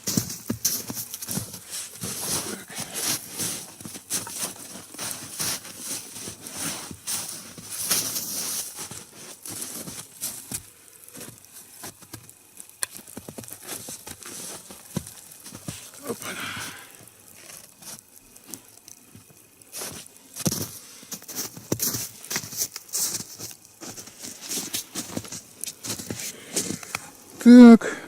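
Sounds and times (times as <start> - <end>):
wood fire crackling and snapping: 0.0 - 27.5.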